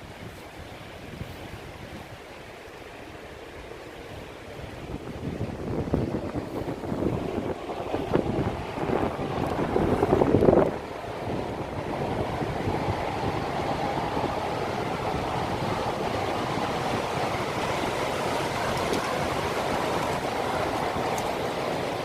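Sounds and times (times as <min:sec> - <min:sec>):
wind buffeting microphone: 0:00.0 - 0:22.0
strong wind rushing: 0:04.0 - 0:22.0.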